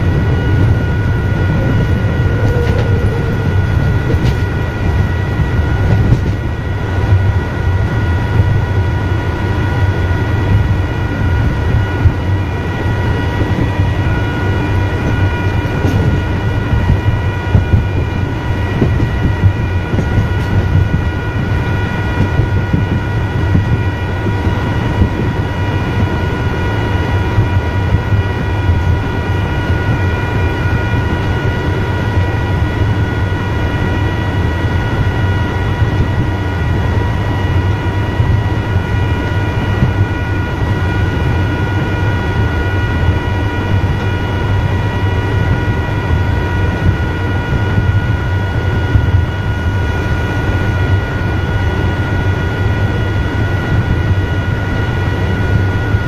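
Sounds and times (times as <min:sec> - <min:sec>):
high electric whine: 0:00.0 - 0:56.0
train wheels rumbling on track: 0:00.0 - 0:56.0.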